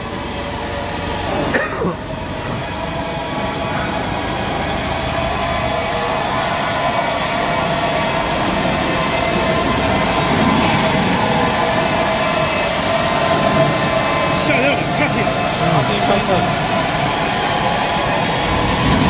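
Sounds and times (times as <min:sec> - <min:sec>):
machinery hum and hiss: 0:00.0 - 0:19.0.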